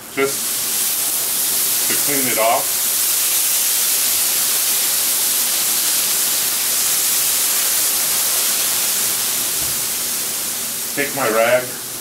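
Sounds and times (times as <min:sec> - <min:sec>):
water hissing on hot griddle: 0:00.0 - 0:12.0.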